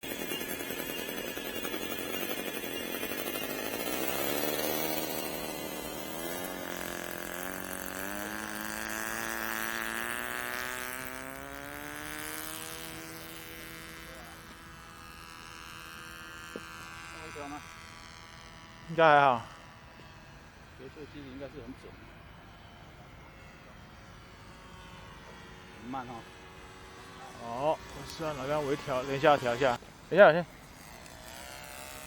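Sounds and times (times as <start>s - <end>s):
model airplane engine running: 0.0s - 32.0s.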